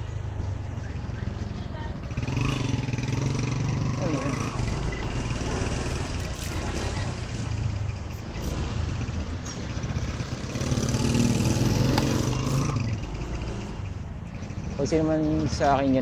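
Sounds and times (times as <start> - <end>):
scooter engine droning: 0.0 - 15.7.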